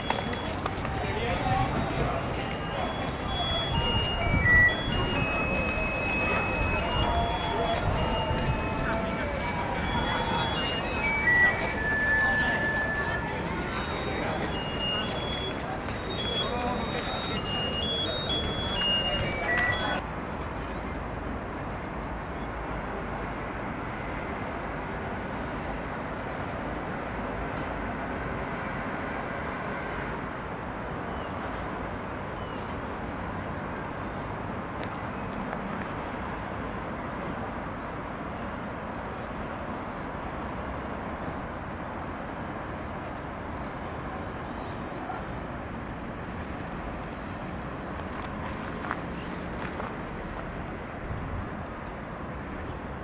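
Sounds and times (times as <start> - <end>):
distant traffic hum: 0.0 - 53.0.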